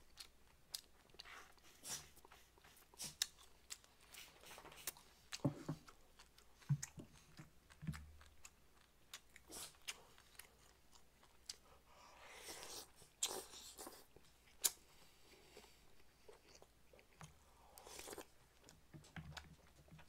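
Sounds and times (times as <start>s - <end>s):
chewing and gnawing meat: 0.0s - 11.9s, 12.5s - 20.0s.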